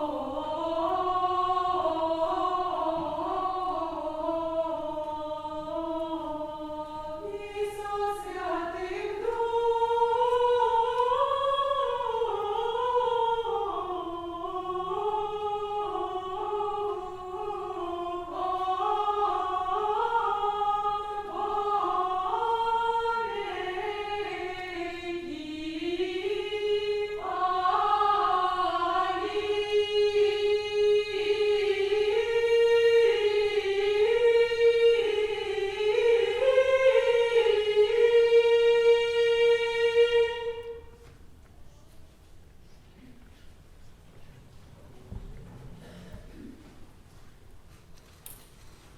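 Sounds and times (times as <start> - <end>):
choir of high voices singing: 0.0 - 41.1.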